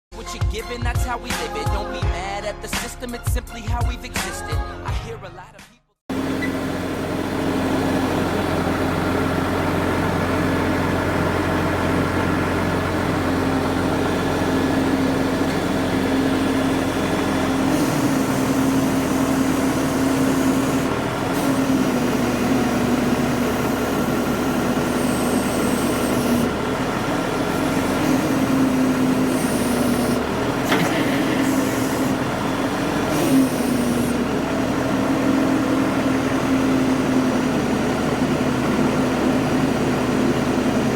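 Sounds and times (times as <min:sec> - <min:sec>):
crane engine running: 0:06.1 - 0:40.9.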